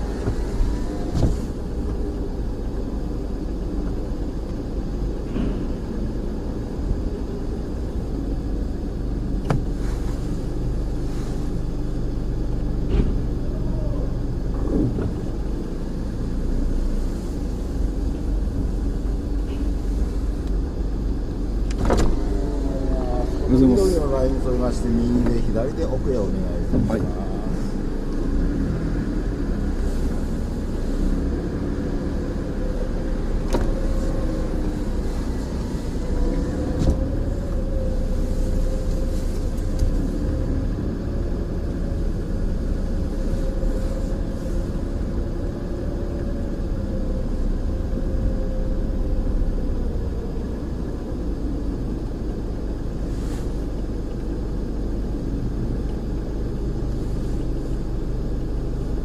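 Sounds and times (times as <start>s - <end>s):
car engine low rumble: 0.0s - 59.0s.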